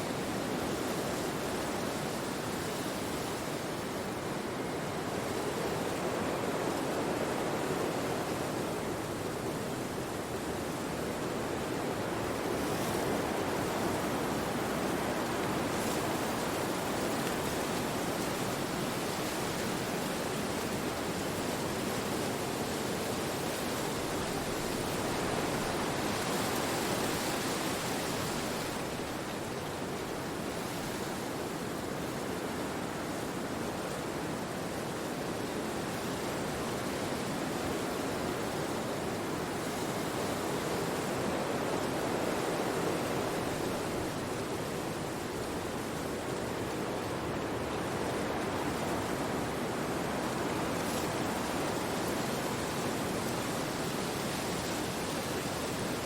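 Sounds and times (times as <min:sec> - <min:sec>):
wind through forest trees: 0:00.0 - 0:56.0.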